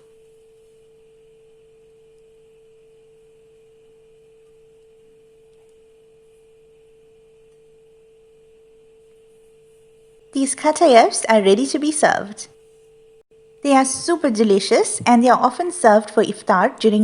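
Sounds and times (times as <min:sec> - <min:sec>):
faint steady pure tone: 0:00.0 - 0:17.0.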